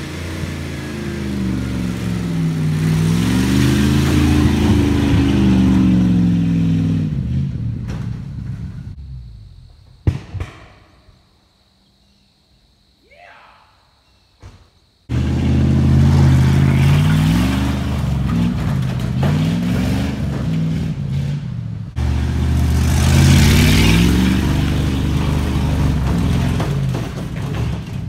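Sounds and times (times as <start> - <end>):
truck engine revving: 0.0 - 9.8, 15.1 - 28.0.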